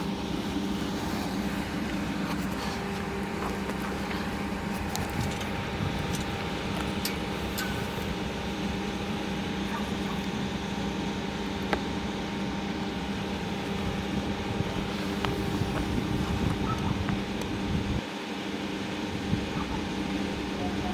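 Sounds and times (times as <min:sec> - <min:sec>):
electric train hum: 0:00.0 - 0:20.9
steady electrical tones: 0:00.0 - 0:20.9.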